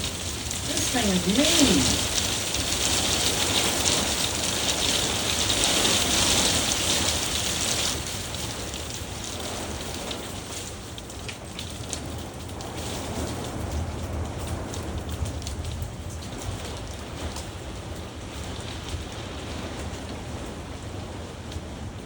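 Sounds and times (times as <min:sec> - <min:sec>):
heavy rain pouring: 0:00.0 - 0:22.0
rain drop ticks: 0:00.0 - 0:22.0.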